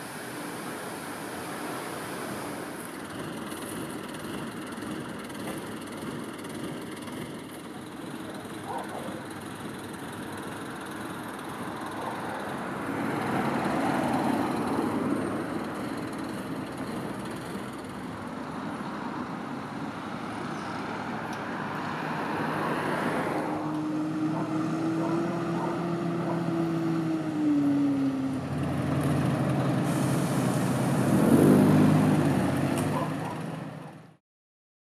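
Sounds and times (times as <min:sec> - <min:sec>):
engine hum: 0:00.0 - 0:34.2
loud vehicle passing: 0:00.0 - 0:34.2
vehicles driving past: 0:00.0 - 0:34.2.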